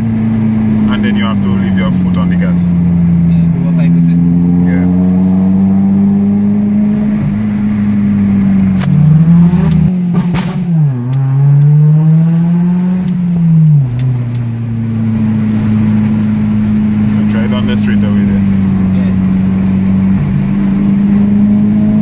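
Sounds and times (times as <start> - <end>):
car engine revving: 0.0 - 22.0
exhaust crackles: 0.0 - 22.0.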